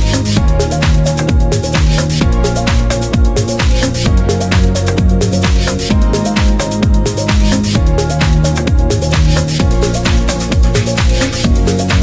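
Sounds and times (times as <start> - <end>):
electronic dance music: 0.0 - 12.0
kick drum beat: 0.0 - 12.0.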